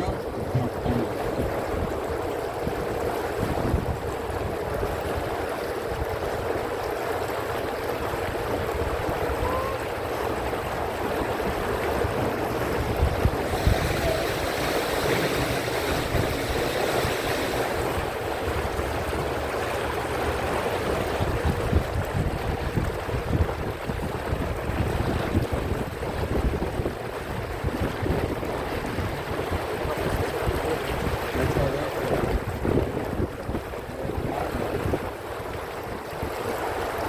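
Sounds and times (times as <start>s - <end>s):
boat motor hum: 0.0s - 37.0s
water noise: 0.0s - 37.0s
wind buffeting microphone: 0.0s - 37.0s.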